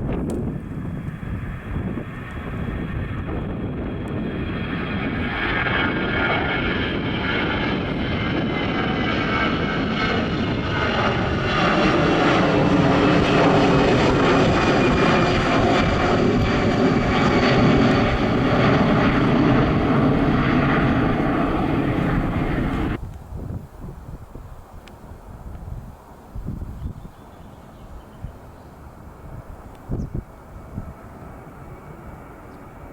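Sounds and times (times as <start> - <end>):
airliner engines passing: 0.0 - 23.3, 24.0 - 32.9.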